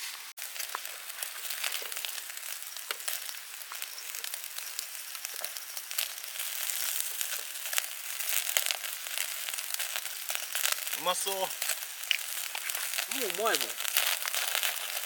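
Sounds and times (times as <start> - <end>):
meat sizzling on a grill: 0.0 - 15.0.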